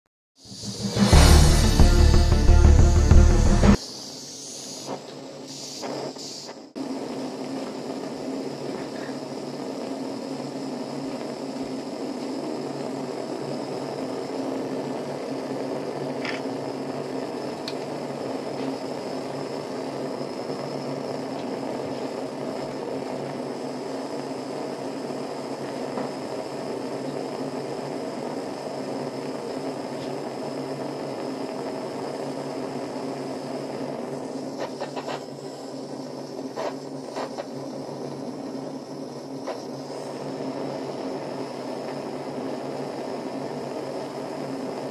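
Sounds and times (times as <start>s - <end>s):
gas torch flame hissing: 0.4s - 44.9s.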